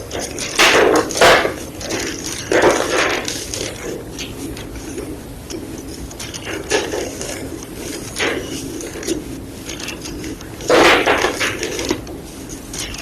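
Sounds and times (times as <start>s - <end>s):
chalk blocks crunching: 0.0s - 13.0s
faint crackling: 0.0s - 13.0s.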